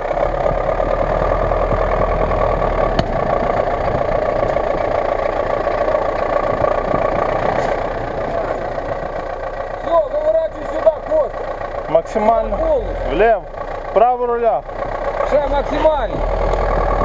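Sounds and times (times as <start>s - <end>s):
truck engine running at low revs: 0.0s - 17.0s.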